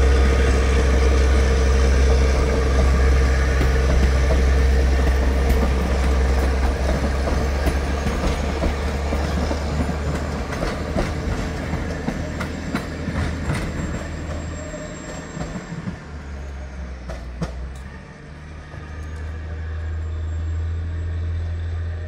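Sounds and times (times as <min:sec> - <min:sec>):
train wheels clicking over rail joints: 0:00.0 - 0:16.2, 0:17.0 - 0:19.4
train low rumble: 0:00.0 - 0:22.0.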